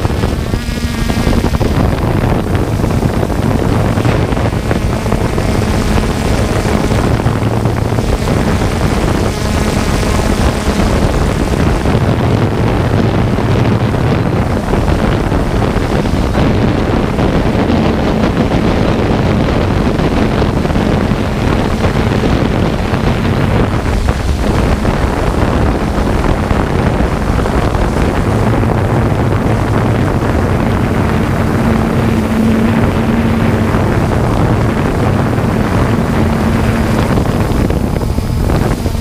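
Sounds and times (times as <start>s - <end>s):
faint low hum: 0.0s - 39.0s
wind buffeting microphone: 0.0s - 39.0s.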